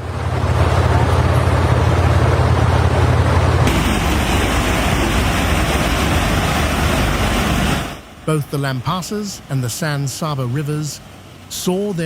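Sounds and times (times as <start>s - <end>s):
rushing floodwater: 0.0s - 12.0s.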